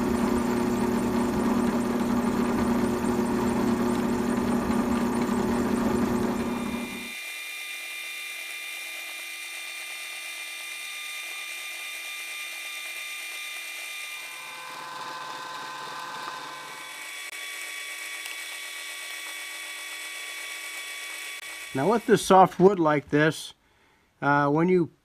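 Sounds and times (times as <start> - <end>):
drill press motor running: 0.0 - 22.6.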